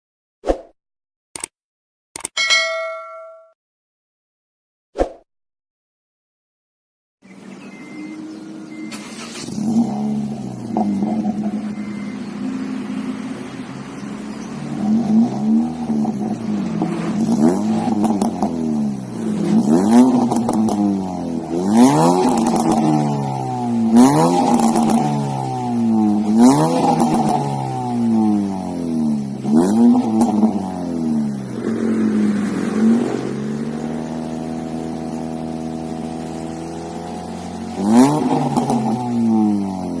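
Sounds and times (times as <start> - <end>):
car engine revving: 7.5 - 40.0.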